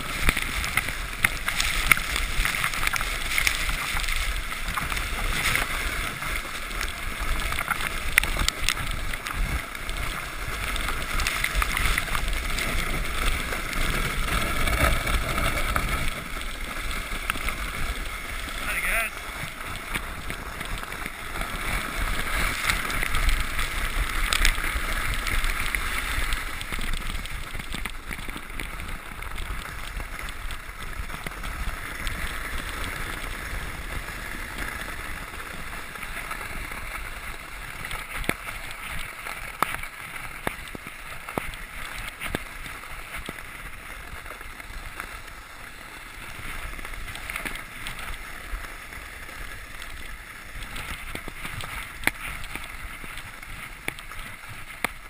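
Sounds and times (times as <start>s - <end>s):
sled sliding over snow: 0.0s - 55.0s.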